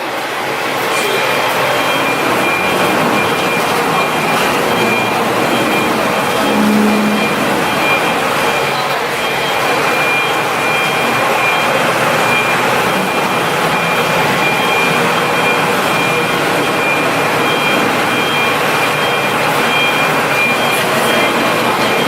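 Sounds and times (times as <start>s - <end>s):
loud mechanical running noise: 0.0s - 22.0s
faint high whine: 1.0s - 19.3s.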